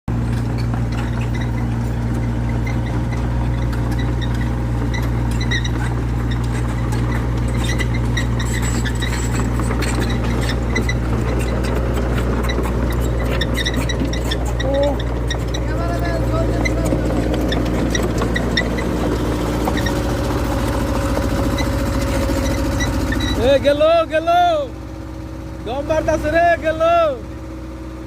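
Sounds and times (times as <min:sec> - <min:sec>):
excavator diesel engine running: 0:00.1 - 0:28.0.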